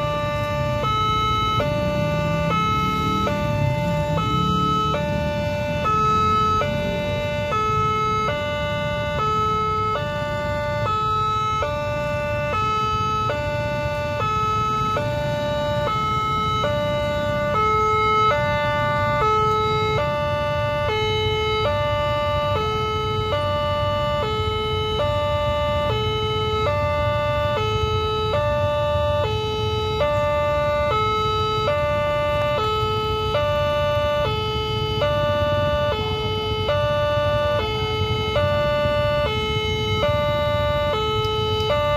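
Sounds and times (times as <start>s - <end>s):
motorcycles and traffic rumble: 0.0s - 41.9s.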